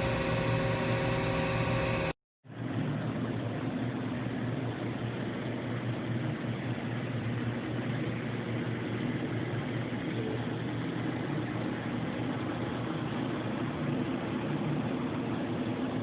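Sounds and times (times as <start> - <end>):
machine hum with low drone: 0.0 - 16.0.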